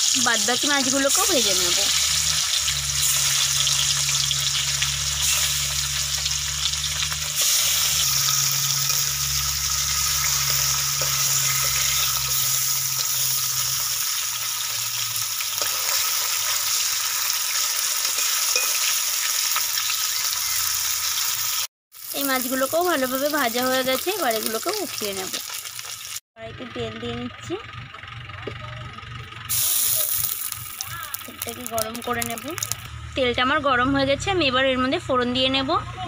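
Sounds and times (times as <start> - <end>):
fish sizzling in hot oil: 0.0 - 26.2, 29.5 - 32.9.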